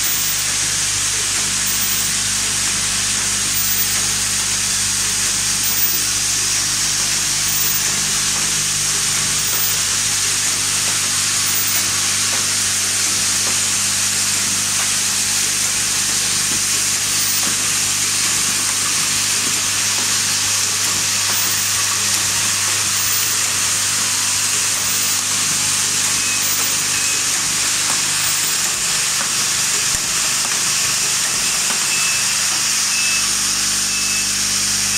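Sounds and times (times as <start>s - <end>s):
assembly line machinery hissing: 0.0s - 34.9s
low electrical hum: 0.0s - 34.9s.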